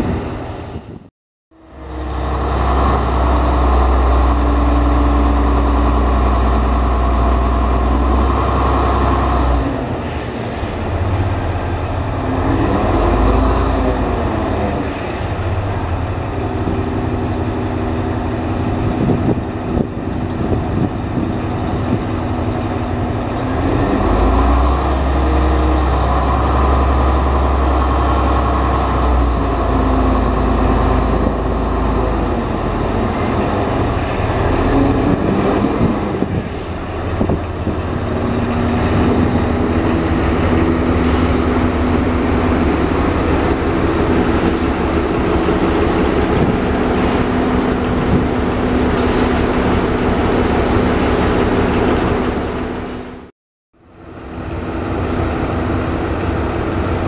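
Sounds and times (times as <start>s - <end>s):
diesel locomotive engine revving: 0.0s - 57.0s.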